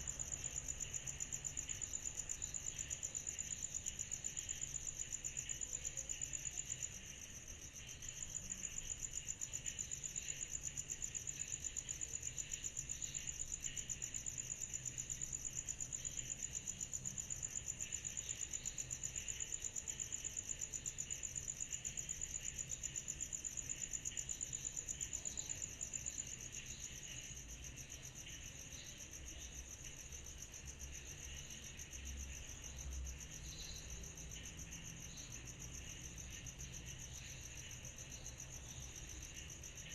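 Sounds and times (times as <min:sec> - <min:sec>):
steady insect chorus: 0:00.0 - 0:39.9.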